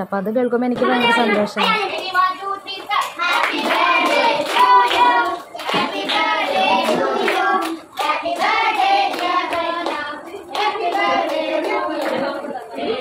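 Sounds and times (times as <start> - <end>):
people clapping: 0.8 - 13.0
people singing together: 0.8 - 13.0.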